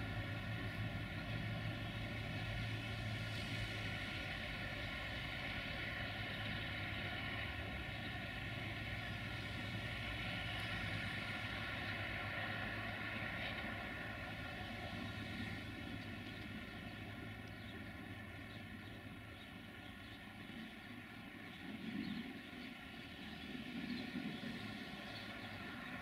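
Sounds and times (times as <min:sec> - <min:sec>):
distant locomotive engine drone: 0:00.0 - 0:26.0.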